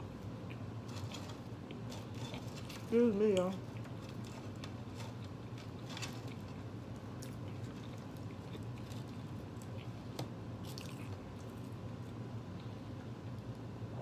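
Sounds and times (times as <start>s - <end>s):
steady low hum: 0.0s - 14.0s
person chewing food: 0.3s - 2.9s, 3.6s - 13.5s.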